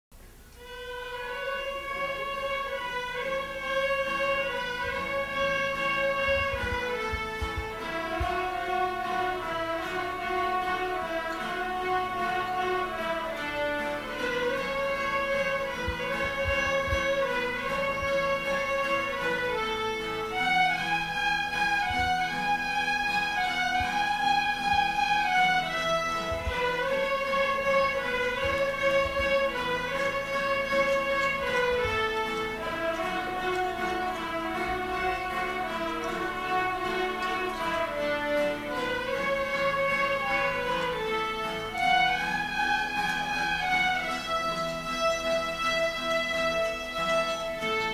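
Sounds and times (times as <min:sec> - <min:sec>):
strummed guitar: 0:00.2 - 0:47.9
fiddles bowing long notes: 0:00.6 - 0:47.9.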